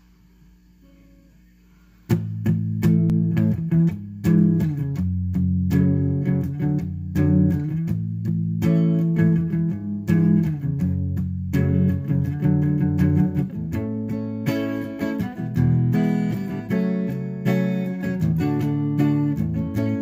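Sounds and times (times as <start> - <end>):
amplifier hum: 0.0 - 20.0
electric guitar notes and chords: 2.1 - 20.0.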